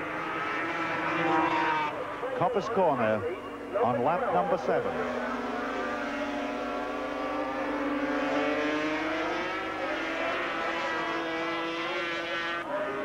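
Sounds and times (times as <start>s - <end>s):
racing motorcycles engines: 0.0s - 13.0s.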